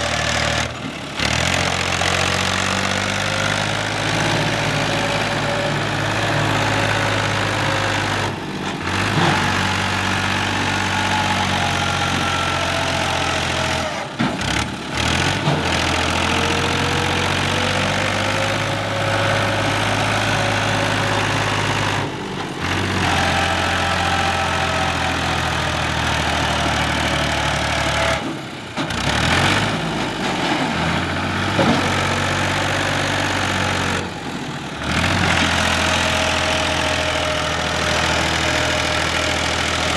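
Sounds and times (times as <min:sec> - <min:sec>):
tractor diesel engine straining: 0:00.0 - 0:39.9.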